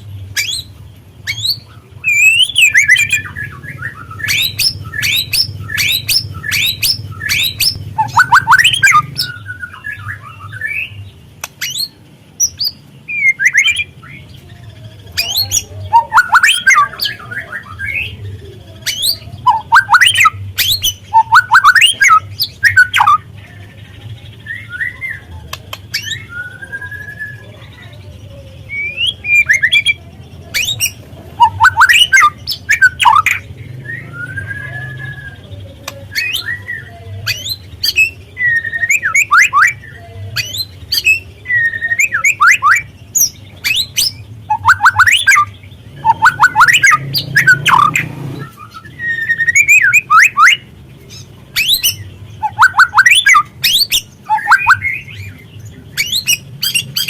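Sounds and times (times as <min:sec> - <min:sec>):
bird chirping and chattering: 0:00.0 - 0:57.0.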